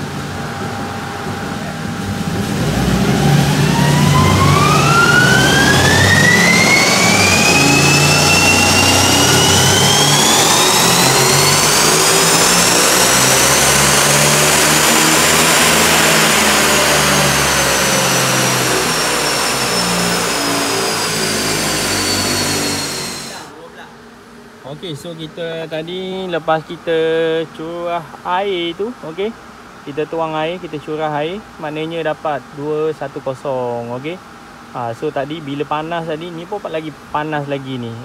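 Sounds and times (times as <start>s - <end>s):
turbo engine whine at full throttle: 0.0s - 38.0s.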